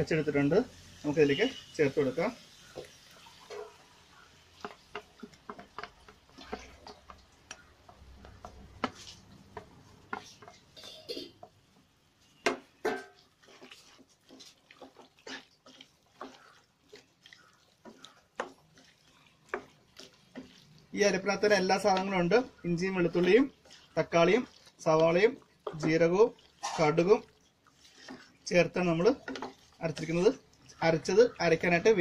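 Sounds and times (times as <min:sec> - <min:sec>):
spatula stirring and knocking pot: 0:01.3 - 0:32.0.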